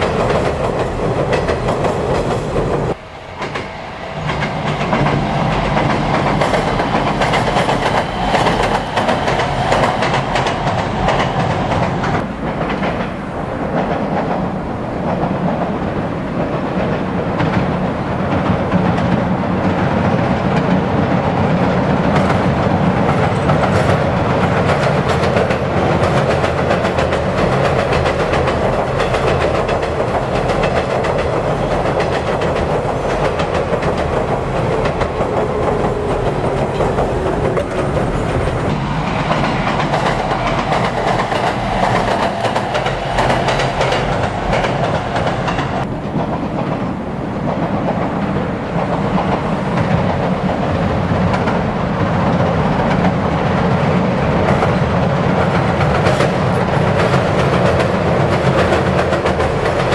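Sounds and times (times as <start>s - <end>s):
train rumbling over bridge: 0.0s - 59.9s.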